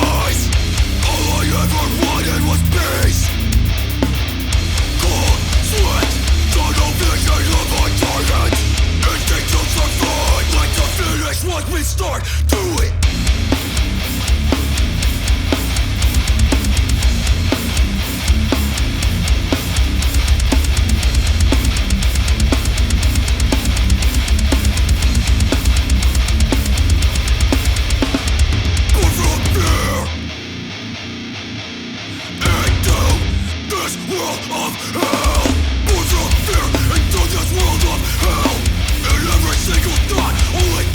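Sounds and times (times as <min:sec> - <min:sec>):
heavy music with distorted guitars: 0:00.0 - 0:40.9.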